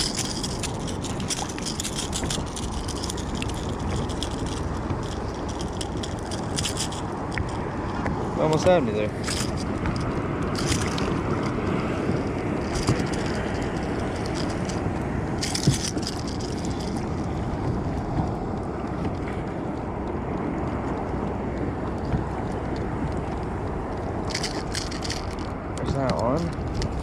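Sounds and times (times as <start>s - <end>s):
water moving around kayak: 0.0s - 27.0s
wind rushing over microphone: 0.0s - 27.0s.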